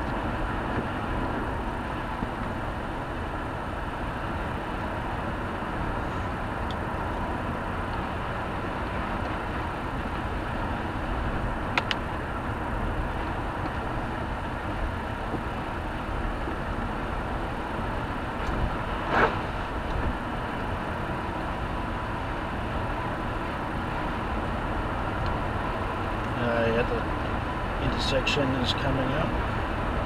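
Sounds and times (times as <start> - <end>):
car engine and tyre noise: 0.0 - 30.0.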